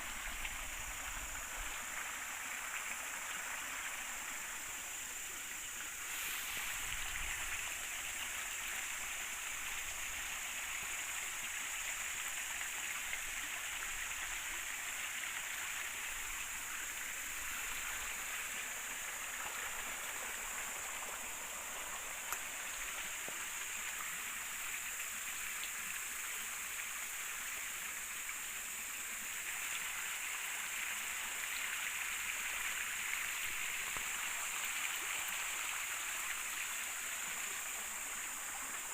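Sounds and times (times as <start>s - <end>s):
constant high hiss: 0.0s - 38.9s
river water flowing: 0.0s - 38.9s.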